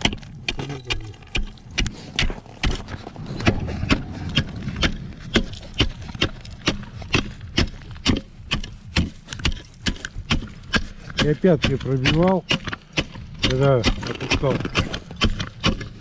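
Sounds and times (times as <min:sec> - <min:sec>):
ice chisel chopping ice: 0:00.0 - 0:16.0.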